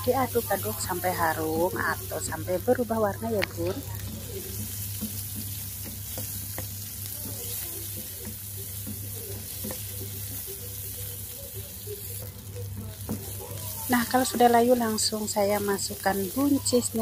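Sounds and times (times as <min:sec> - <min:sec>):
food sizzling in hot oil: 0:00.0 - 0:17.0
spatula scraping and tapping pan: 0:00.2 - 0:17.0.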